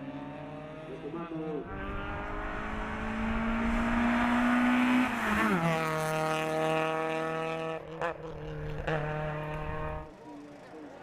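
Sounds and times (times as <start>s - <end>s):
race car engine at high revs: 0.0s - 10.2s.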